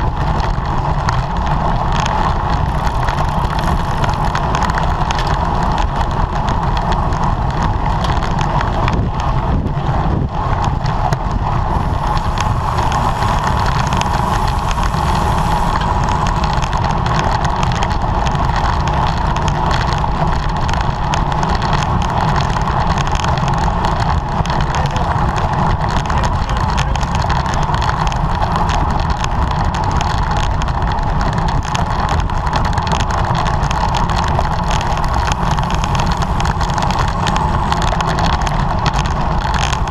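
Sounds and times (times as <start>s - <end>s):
bicycle road noise: 0.0s - 39.9s
wind noise: 0.0s - 39.9s.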